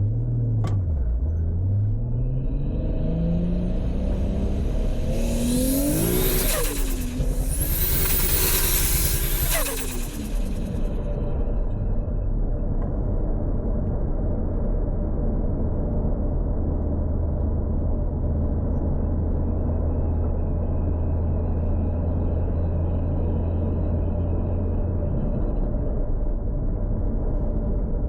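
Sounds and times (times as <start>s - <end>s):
car engine running steadily: 0.0s - 28.0s.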